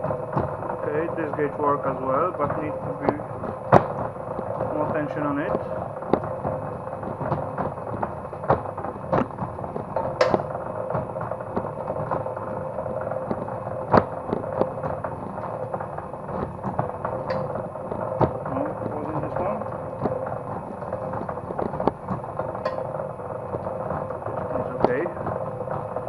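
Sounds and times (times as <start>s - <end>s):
machine clicks and knocks: 0.0s - 26.0s
machine humming: 0.0s - 26.0s.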